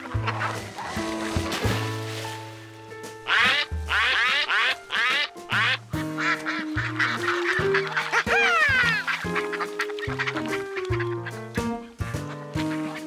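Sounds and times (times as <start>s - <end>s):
ducks quacking: 0.0s - 1.2s, 3.2s - 13.0s
background music: 0.0s - 13.0s.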